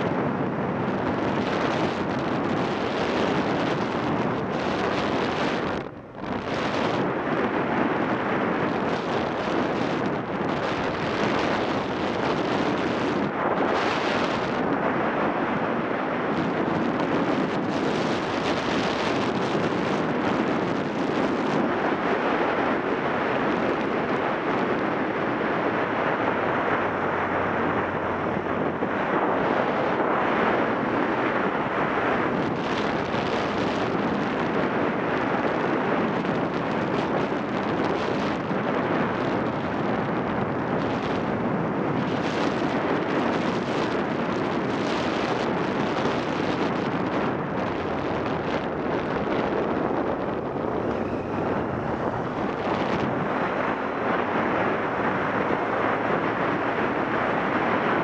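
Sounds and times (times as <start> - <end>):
road noise: 0.0 - 58.0
wind roaring over microphone: 0.0 - 58.0.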